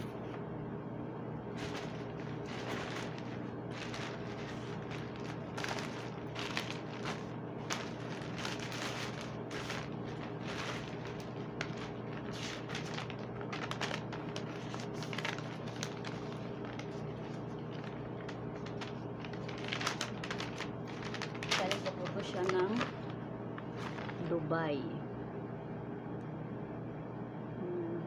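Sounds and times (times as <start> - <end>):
steady low hum: 0.0 - 28.0
bubble wrap crinkling: 1.5 - 24.5.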